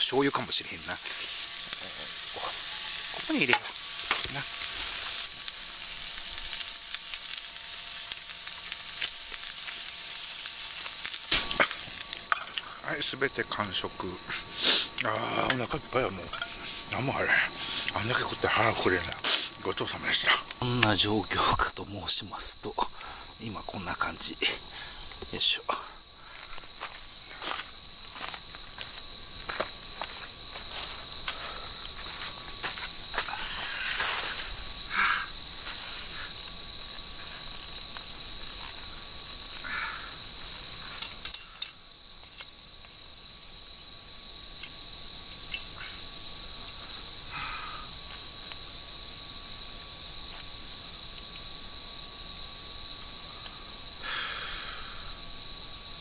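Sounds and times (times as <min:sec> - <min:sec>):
campfire crackling: 0:00.0 - 0:56.0
crickets trilling: 0:00.0 - 0:56.0.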